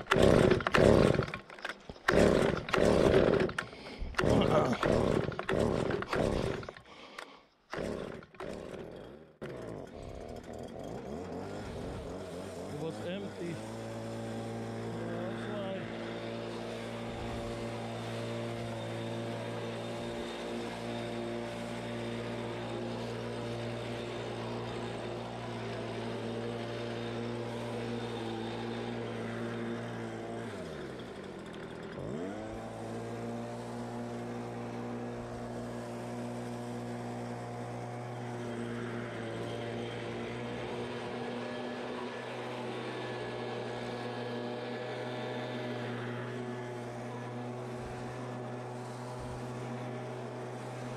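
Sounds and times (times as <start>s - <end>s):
leaf blower engine running: 0.0s - 50.9s.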